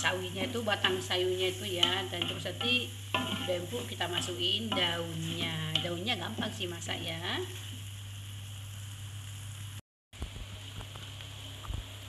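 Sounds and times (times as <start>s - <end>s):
food sizzling and bubbling in a wok: 0.0s - 12.0s.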